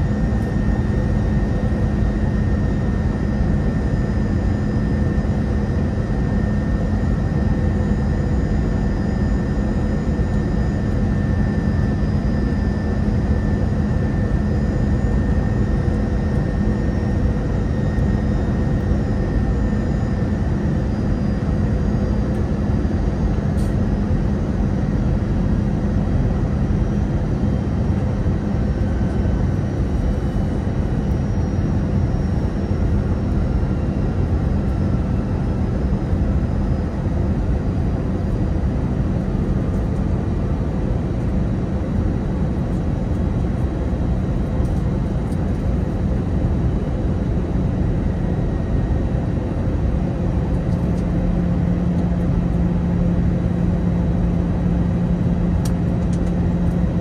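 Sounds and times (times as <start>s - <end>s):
jet engine cabin noise: 0.0s - 57.0s.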